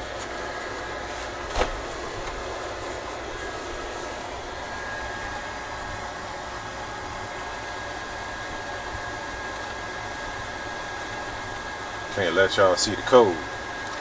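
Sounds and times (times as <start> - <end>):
faint high whine: 0.0 - 14.0
whooshing mechanical hum: 0.0 - 14.0.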